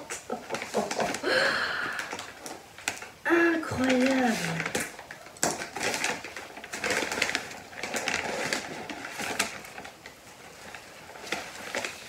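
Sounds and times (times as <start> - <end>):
paper wrapping crinkling: 0.0 - 12.0.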